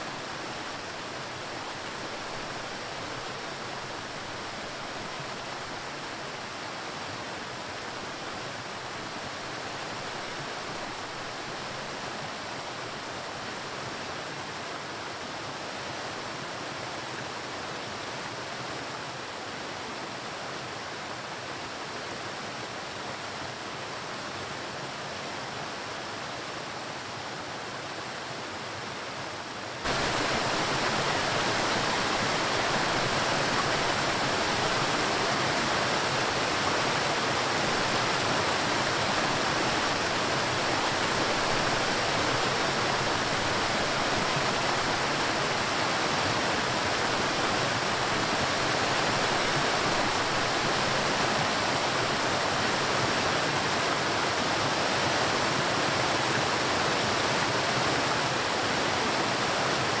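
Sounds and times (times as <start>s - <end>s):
waterfall rushing over rocks: 0.0s - 60.0s.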